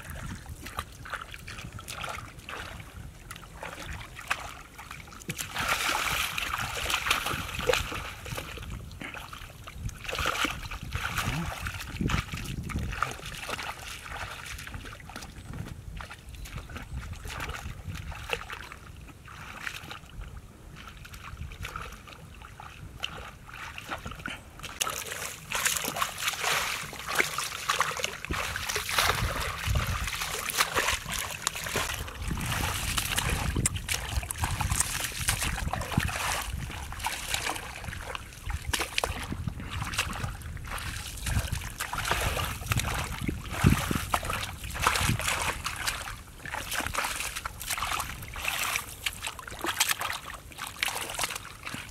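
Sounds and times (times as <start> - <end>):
hands splashing in muddy water: 0.0 - 51.9.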